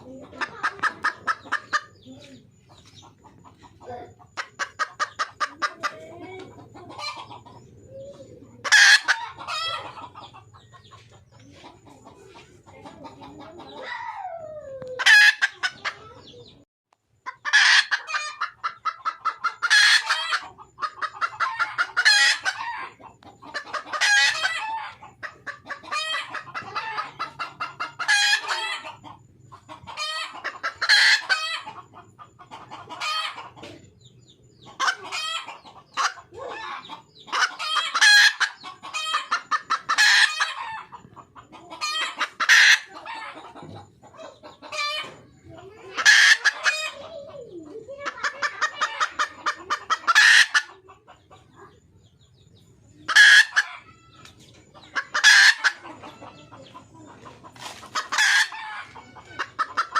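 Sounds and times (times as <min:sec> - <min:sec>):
hen cackling: 0:00.0 - 0:16.6, 0:17.2 - 0:52.1, 0:52.9 - 0:59.9.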